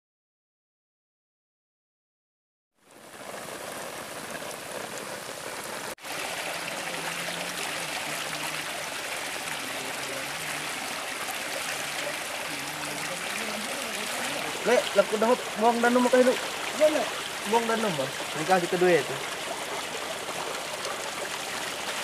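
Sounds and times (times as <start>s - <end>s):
slurry rushing down sluice: 2.8s - 22.0s.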